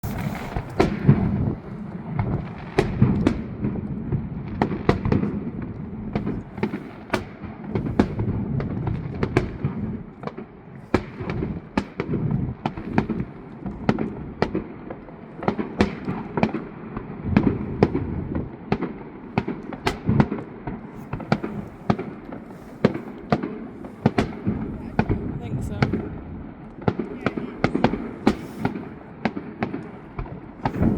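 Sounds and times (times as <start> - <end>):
distant fireworks booming: 0.0 - 30.9
sharp firework cracks: 0.0 - 30.9.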